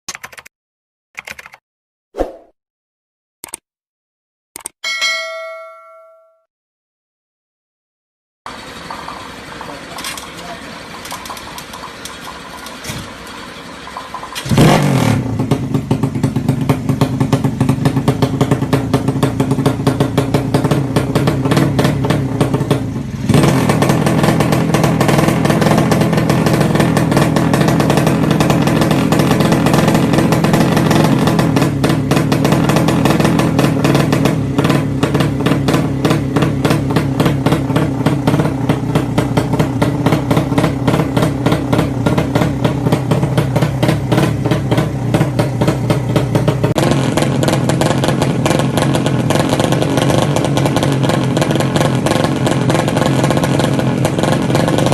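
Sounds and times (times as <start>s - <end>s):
motorcycle engine revving: 8.5s - 54.9s.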